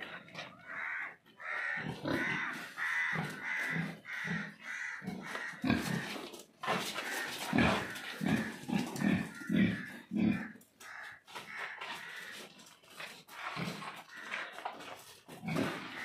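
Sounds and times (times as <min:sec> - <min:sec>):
pigs grunting: 0:00.0 - 0:16.0.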